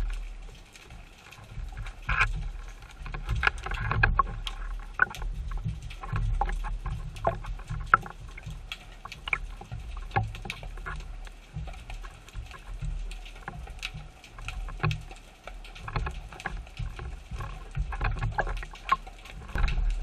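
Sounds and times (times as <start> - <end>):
sharp underwater clicks and crackles: 0.0 - 20.0
underwater sloshing and rumbling: 0.0 - 20.0.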